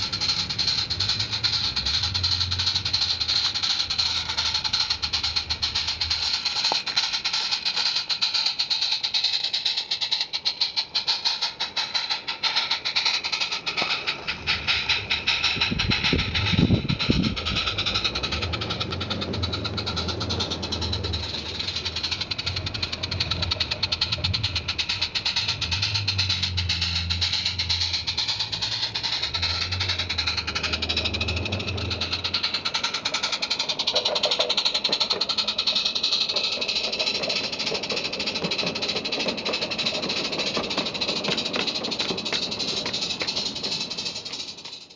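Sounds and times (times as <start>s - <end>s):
coaches rattling on track: 0.0s - 44.9s
steam locomotive exhaust chuffing: 0.0s - 44.9s.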